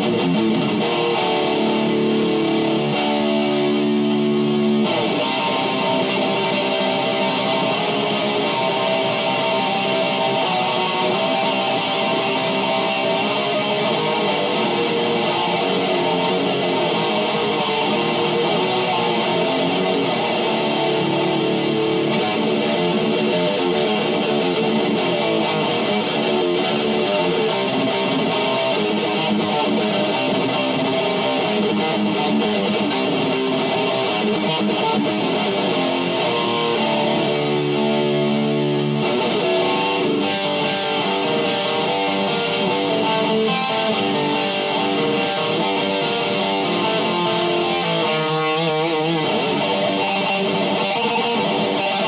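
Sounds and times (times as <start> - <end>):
distorted electric guitar riffs: 0.0 - 52.0.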